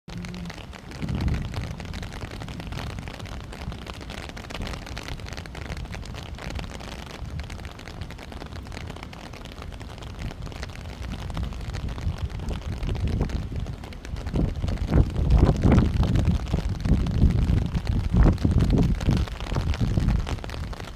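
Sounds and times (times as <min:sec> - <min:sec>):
wind buffeting microphone: 0:00.1 - 0:20.9.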